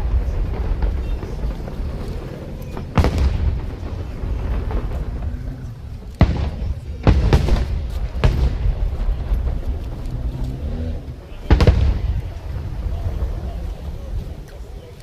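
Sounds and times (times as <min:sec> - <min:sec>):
low rumble of fireworks show: 0:00.0 - 0:15.0.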